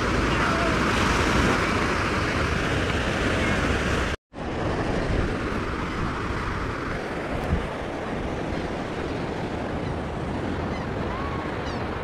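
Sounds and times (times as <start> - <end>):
surf breaking on sandy beach: 0.0 - 12.0
wind on microphone: 0.0 - 12.0.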